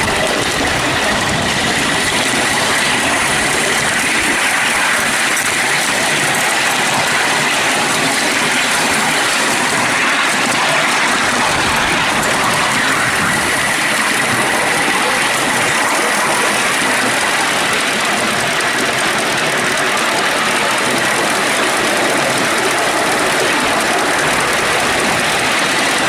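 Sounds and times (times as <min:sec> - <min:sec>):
steam locomotive running on track: 0:00.0 - 0:26.0.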